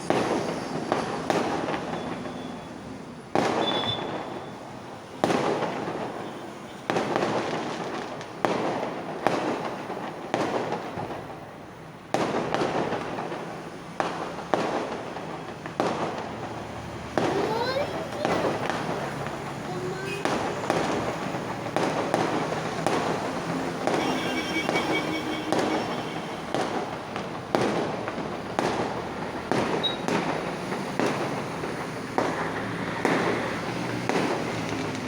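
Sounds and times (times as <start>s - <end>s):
fireworks bangs: 0.0s - 35.0s
fireworks crackle: 0.0s - 35.0s.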